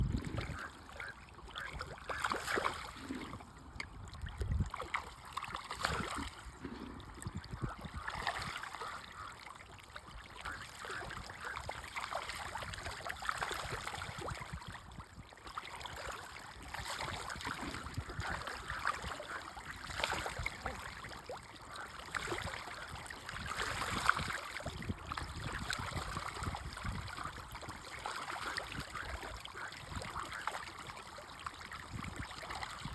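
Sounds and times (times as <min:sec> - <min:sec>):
water splashing and trickling: 0:00.0 - 0:32.9.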